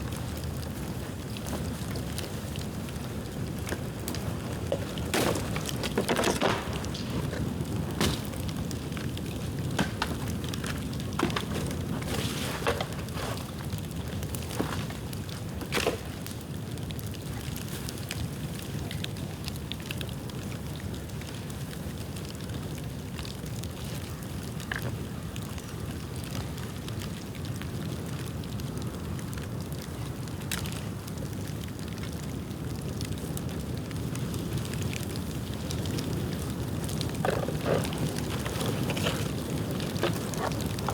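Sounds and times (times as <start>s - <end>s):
bamboo crackling and popping: 0.0s - 40.9s
bonfire flame rumble: 0.0s - 40.9s.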